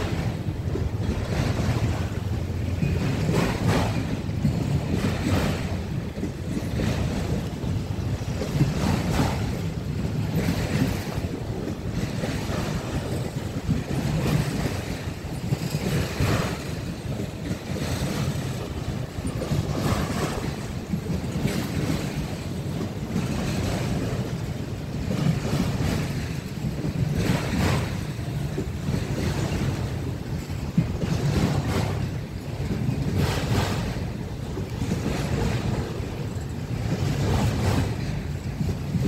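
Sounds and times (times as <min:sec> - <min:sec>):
freight train wheels rumbling: 0:00.0 - 0:39.0
wind buffeting microphone: 0:00.0 - 0:39.0.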